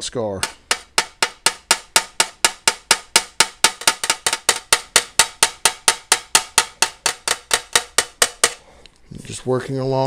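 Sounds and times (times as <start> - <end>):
hammer tapping on brass tube: 0.4 - 8.7.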